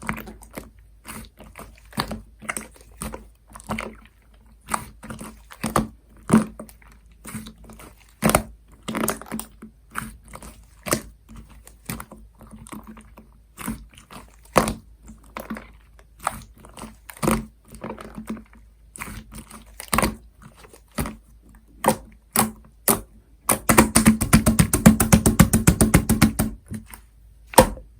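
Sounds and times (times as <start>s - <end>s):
slime squished by hand: 0.0s - 27.9s.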